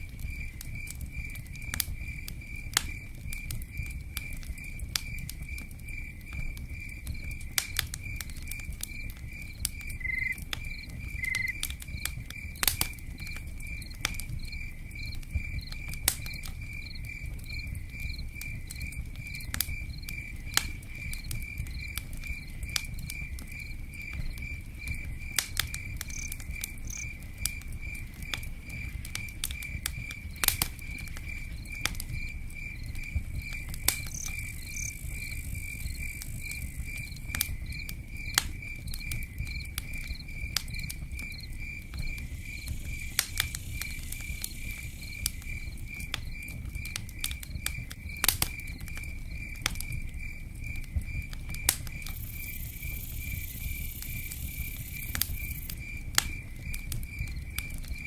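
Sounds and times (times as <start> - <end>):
campfire crackling and popping: 0.0 - 58.0
cricket chirping: 0.0 - 58.0.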